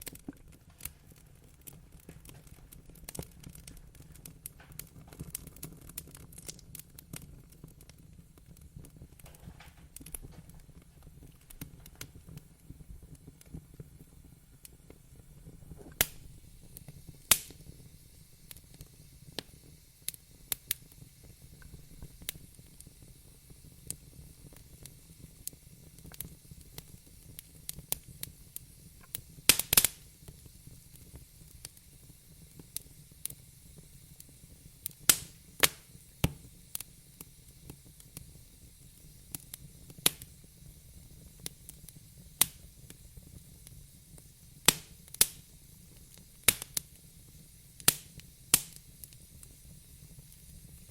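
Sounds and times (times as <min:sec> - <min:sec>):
campfire crackling: 0:00.0 - 0:50.9
low rumble of flames: 0:00.0 - 0:50.9.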